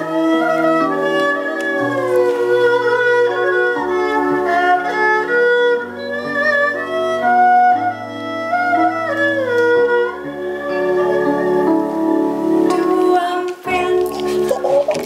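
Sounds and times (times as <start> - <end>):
bowed fiddle melody: 0.0 - 15.0.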